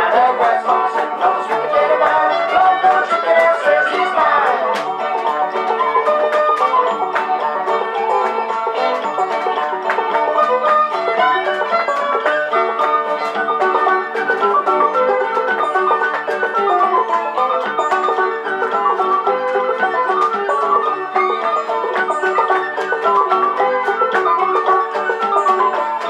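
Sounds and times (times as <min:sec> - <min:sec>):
banjo: 0:00.0 - 0:26.0
string band fiddle tune: 0:00.0 - 0:26.0.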